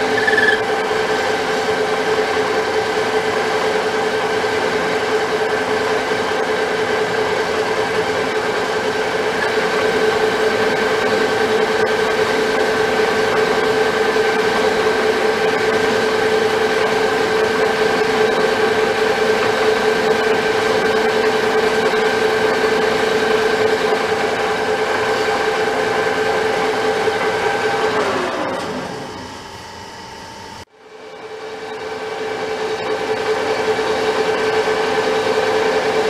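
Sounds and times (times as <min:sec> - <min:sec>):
metal lathe gear whine: 0:00.0 - 0:36.0.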